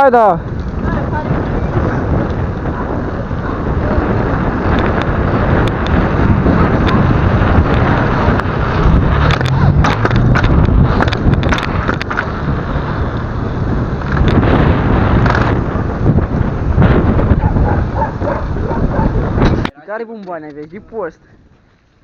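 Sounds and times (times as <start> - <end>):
wind buffeting microphone: 0.0 - 19.8
bike clicks and rattles: 0.4 - 22.0.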